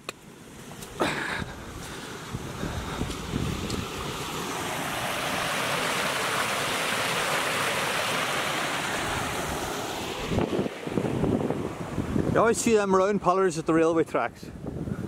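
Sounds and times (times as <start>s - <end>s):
stream water rushing: 0.0s - 12.9s.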